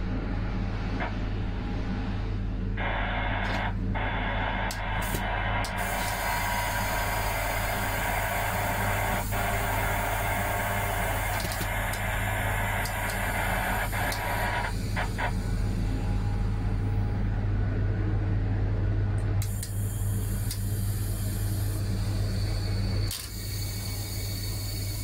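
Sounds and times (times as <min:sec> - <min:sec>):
train low hum: 0:00.0 - 0:25.0.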